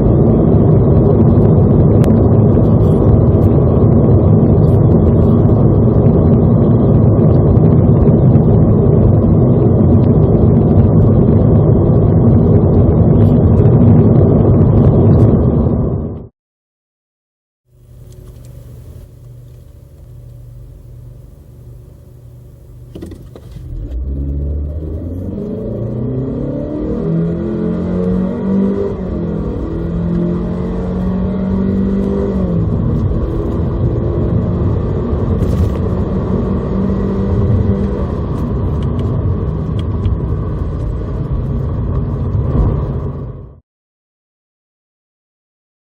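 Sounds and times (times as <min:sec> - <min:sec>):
car engine revving at full throttle: 0:00.0 - 0:16.3, 0:17.9 - 0:43.6
road noise: 0:00.0 - 0:16.3, 0:17.7 - 0:43.6
wind noise: 0:00.0 - 0:16.3, 0:22.9 - 0:43.6.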